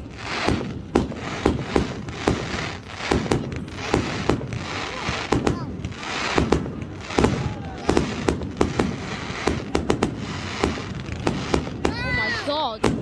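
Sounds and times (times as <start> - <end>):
fireworks bangs and pops: 0.0 - 13.0
fireworks crackling: 0.0 - 13.0.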